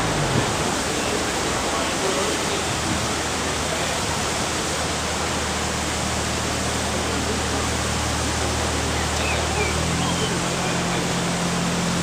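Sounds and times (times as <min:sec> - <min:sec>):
water rushing over weir: 0:00.0 - 0:12.0.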